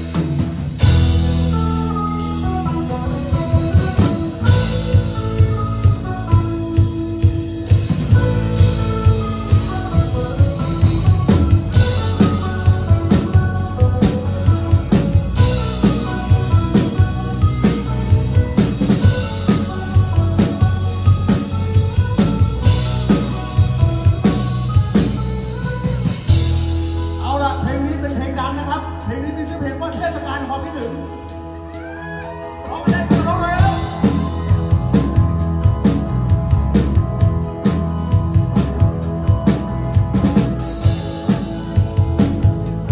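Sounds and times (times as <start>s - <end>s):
drum kit steady beat: 0.0s - 28.7s, 31.8s - 42.9s
electric bass: 0.0s - 42.9s
electric guitars: 0.0s - 42.9s.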